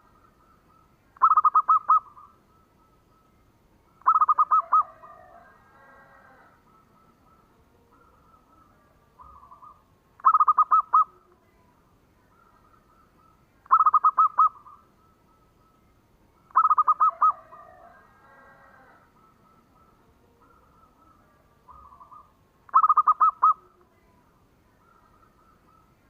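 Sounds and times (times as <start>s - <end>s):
dove cooing: 0.0s - 3.3s, 4.0s - 11.4s, 12.3s - 15.7s, 16.4s - 26.0s
faint bird calls: 0.0s - 26.0s.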